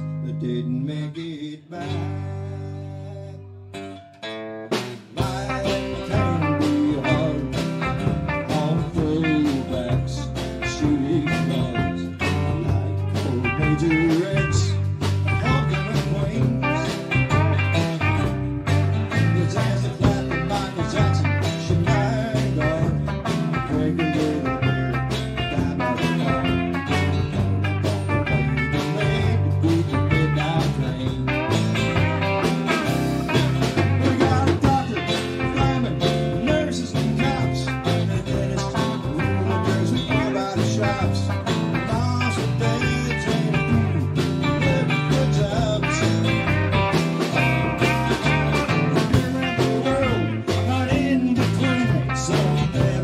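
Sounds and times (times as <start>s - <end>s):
electric bass: 0.0s - 53.0s
hollow-body electric guitar: 0.0s - 53.0s
solid-body electric guitar: 0.0s - 53.0s
drum kit: 3.8s - 53.0s.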